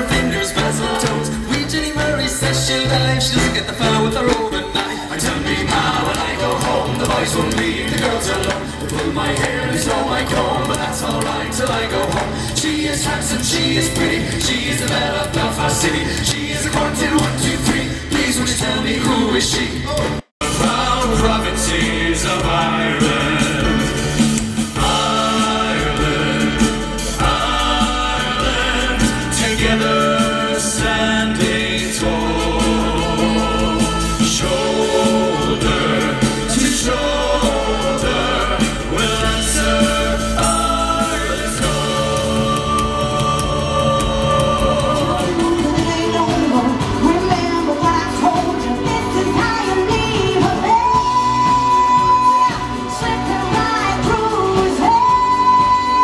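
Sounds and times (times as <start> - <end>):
live band playing: 0.0 - 56.0
male vocal group singing: 0.0 - 56.0.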